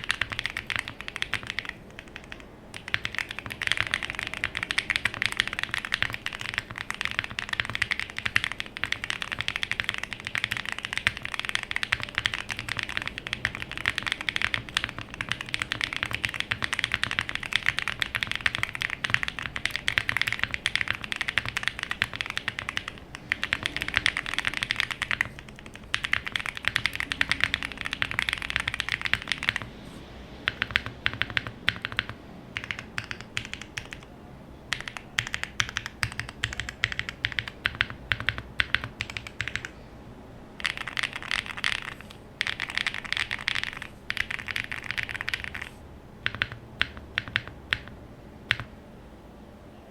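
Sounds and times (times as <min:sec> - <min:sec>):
mechanical keyboard typing: 0:00.0 - 0:34.1, 0:34.7 - 0:39.8, 0:40.6 - 0:48.8.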